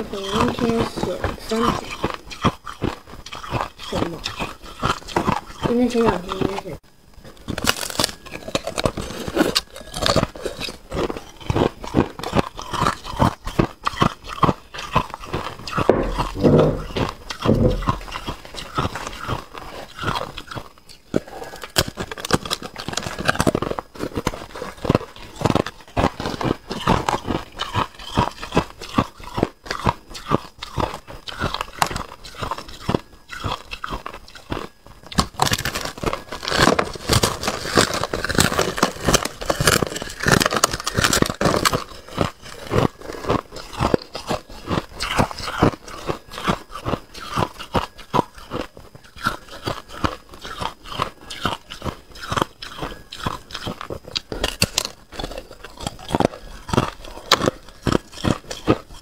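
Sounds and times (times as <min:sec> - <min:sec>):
ice being bitten and chewed: 0:00.0 - 0:59.0.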